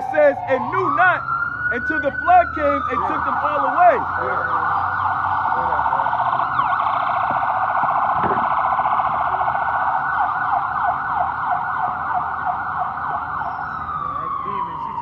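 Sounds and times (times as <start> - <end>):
ambulance siren: 0.0 - 15.0.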